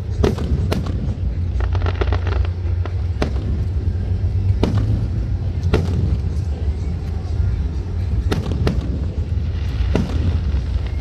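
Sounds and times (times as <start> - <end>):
fireworks bangs: 0.0 - 11.0
fireworks crackling: 0.0 - 11.0
low rumble: 0.0 - 11.0.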